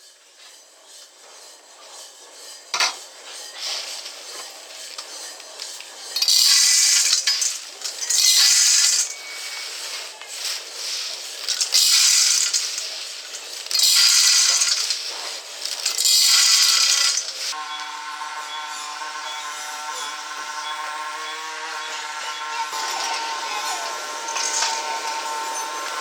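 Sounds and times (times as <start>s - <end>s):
coffee beans rattling in metal roaster: 0.0s - 17.6s, 20.5s - 26.0s.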